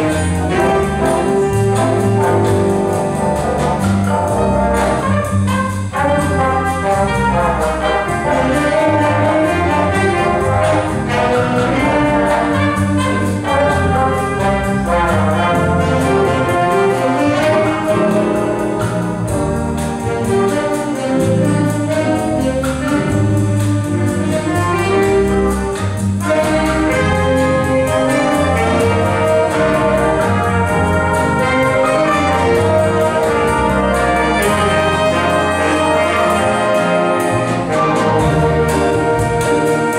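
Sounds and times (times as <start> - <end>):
brass ensemble music: 0.0 - 39.9.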